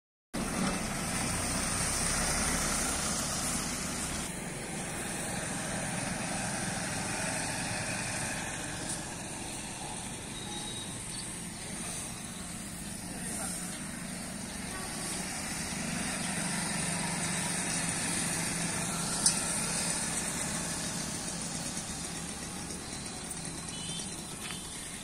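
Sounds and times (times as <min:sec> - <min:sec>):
motorcycle passing: 0:00.4 - 0:25.0
truck engine driving by: 0:00.4 - 0:25.0.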